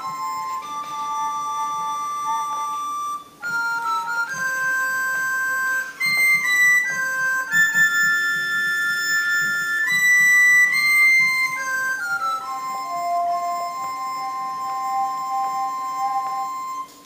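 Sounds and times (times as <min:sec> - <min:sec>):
mouth whistling: 0:00.0 - 0:17.0
tin whistle blown through nose: 0:00.0 - 0:17.0.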